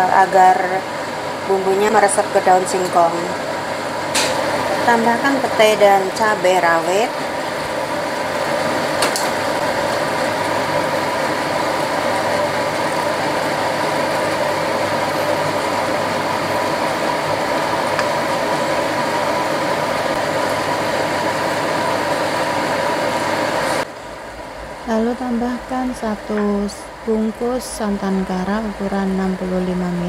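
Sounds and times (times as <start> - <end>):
mechanical hum with hiss: 0.0 - 30.0.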